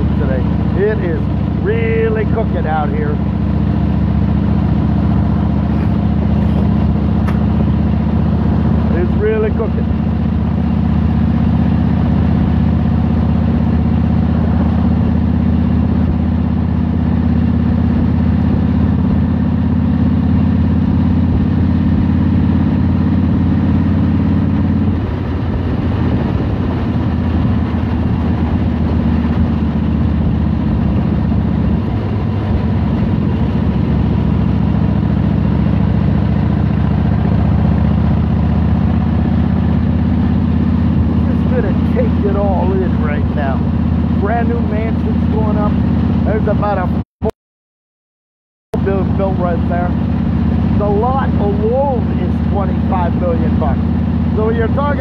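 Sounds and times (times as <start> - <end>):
motorcycle engine cruising: 0.0 - 47.1, 48.8 - 55.0.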